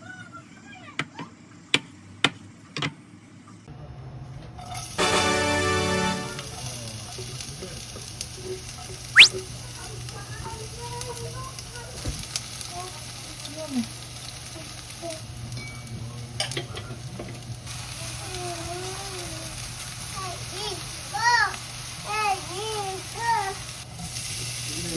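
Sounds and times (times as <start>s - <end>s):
food sizzling in a pan: 4.6s - 24.9s.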